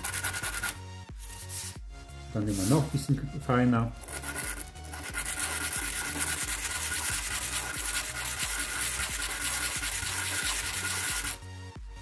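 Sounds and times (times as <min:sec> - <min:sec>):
sanding on sandpaper: 0:00.0 - 0:01.8, 0:02.5 - 0:03.0, 0:04.0 - 0:11.4.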